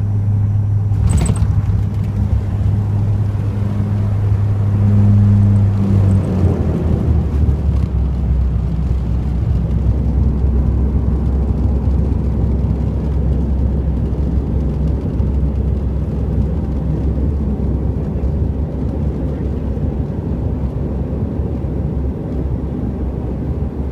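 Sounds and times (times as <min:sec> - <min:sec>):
airliner landing rumble: 0:00.0 - 0:23.9.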